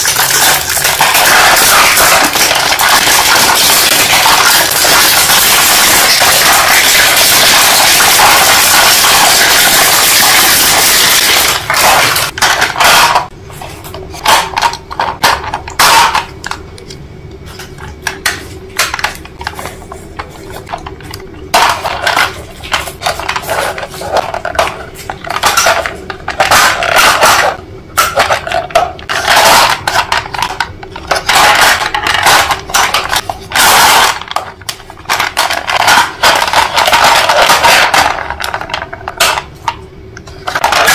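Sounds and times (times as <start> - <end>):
hard objects clattering: 0.0 - 40.9.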